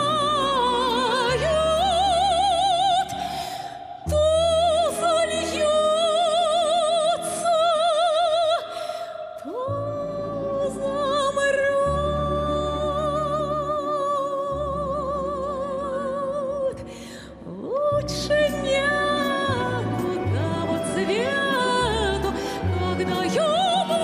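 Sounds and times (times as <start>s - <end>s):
woman singing operatically: 0.0s - 3.2s, 3.9s - 24.0s.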